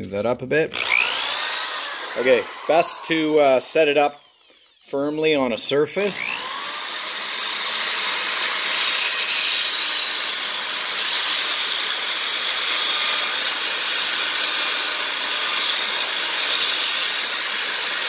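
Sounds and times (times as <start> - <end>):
electric drill motor: 0.7 - 5.0, 6.0 - 18.0.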